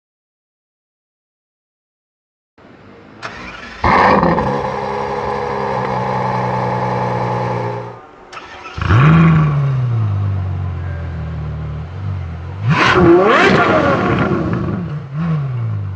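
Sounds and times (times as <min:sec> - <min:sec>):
car engine starting and idling: 0:03.0 - 0:15.9.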